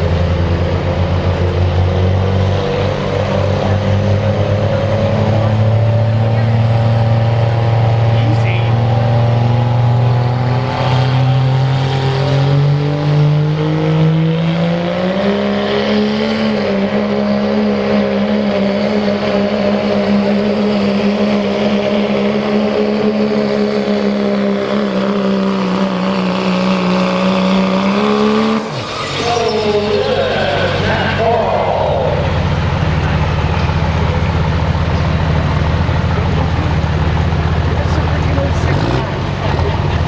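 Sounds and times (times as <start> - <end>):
truck engine at full throttle: 0.0 - 40.0.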